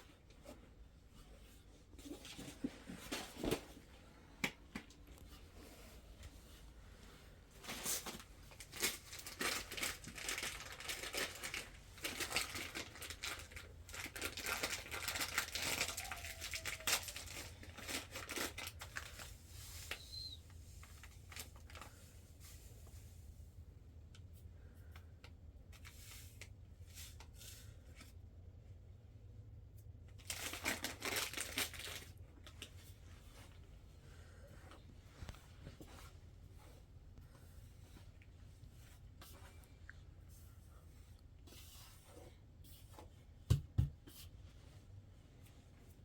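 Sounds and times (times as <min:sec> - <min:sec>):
rustling and crinkling: 0:00.0 - 0:28.2, 0:29.7 - 0:46.0.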